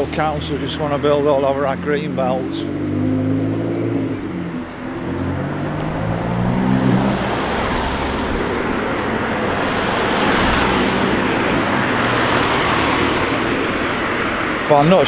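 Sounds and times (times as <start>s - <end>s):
cars driving past: 0.0s - 15.0s
tyre and road noise: 0.0s - 15.0s.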